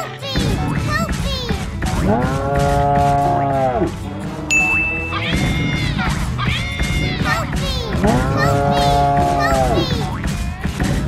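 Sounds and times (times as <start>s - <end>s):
upbeat cartoon music: 0.0s - 11.0s.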